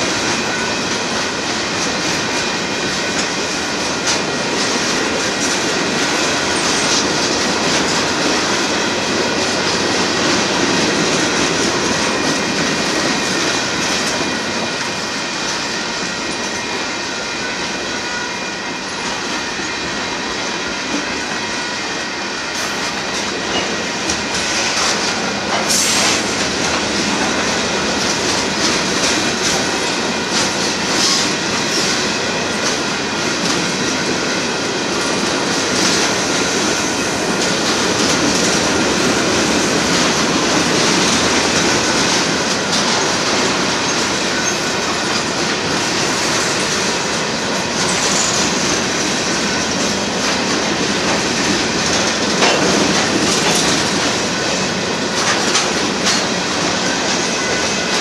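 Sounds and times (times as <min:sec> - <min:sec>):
freight cars rolling on rails: 0:00.0 - 0:58.0.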